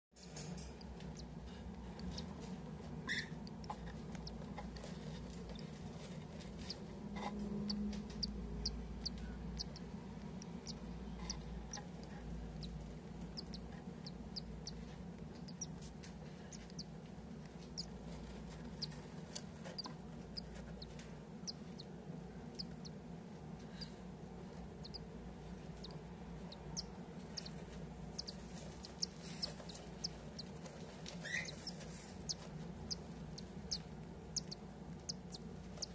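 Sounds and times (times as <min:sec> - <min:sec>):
steady low hum: 0:00.2 - 0:35.9
bird chick cheeping: 0:01.1 - 0:04.6, 0:06.6 - 0:16.9, 0:17.6 - 0:23.0, 0:24.6 - 0:35.9.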